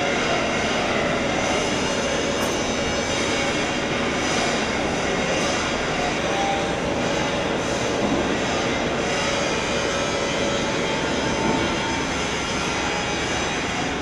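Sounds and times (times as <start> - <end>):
grinding machine running: 0.0 - 14.0.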